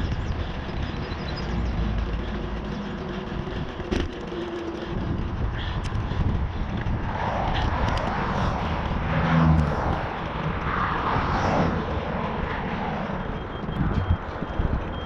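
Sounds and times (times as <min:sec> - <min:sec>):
road traffic passing: 0:00.0 - 0:15.0
vehicle engine hum: 0:00.0 - 0:15.0
wind rumbling on microphone: 0:00.0 - 0:15.0.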